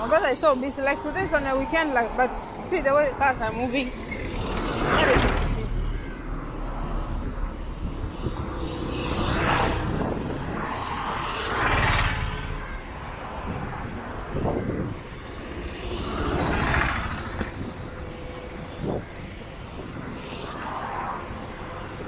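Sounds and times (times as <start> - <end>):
auto-rickshaw passing: 0.0 - 22.0
cars passing: 0.0 - 22.0.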